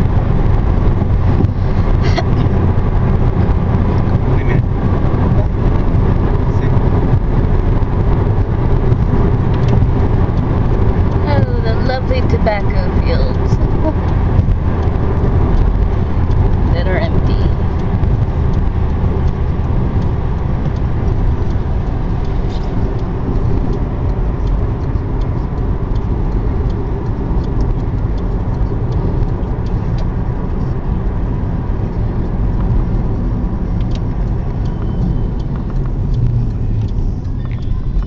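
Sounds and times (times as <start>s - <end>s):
car road noise: 0.0s - 38.0s.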